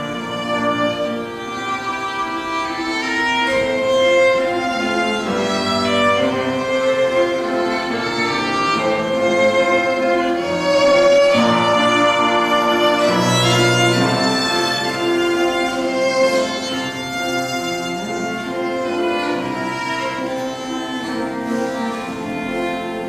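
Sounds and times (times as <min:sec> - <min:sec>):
classical piano trio: 0:00.0 - 0:23.0.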